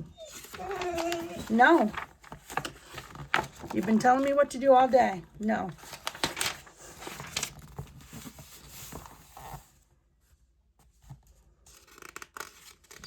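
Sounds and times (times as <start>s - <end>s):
magazine pages rustling: 0.2s - 9.8s, 11.7s - 13.0s.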